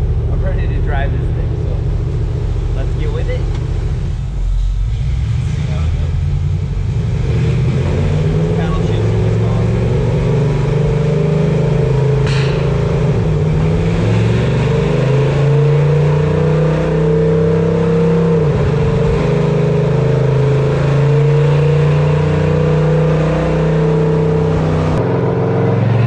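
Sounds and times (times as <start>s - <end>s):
truck engine revving under load: 0.0s - 26.0s.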